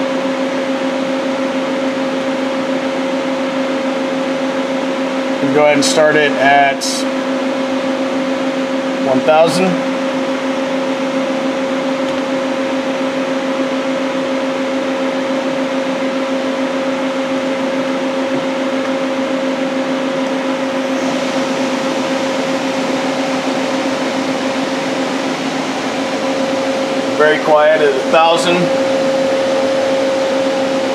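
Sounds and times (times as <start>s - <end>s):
lathe running with steady hum: 0.0s - 30.9s
faint high spindle whine: 5.3s - 30.9s.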